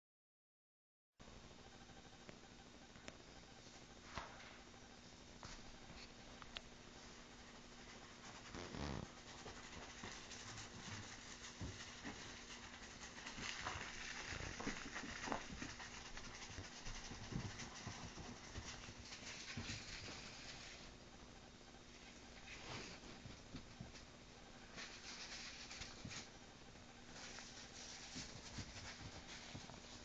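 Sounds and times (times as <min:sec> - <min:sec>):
low hum and hiss: 0:01.2 - 0:30.0.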